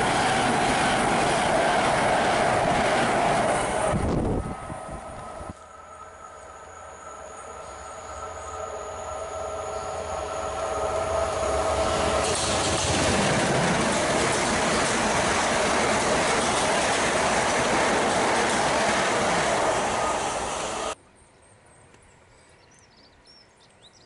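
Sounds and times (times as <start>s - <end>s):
train passing at speed: 0.0s - 21.0s.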